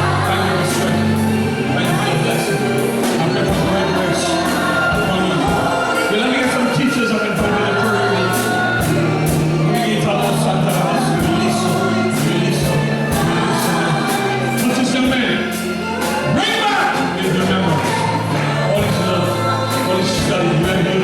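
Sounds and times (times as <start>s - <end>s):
bass notes: 0.0s - 21.0s
group singing gospel: 0.0s - 21.0s
steady drum beat: 0.0s - 21.0s.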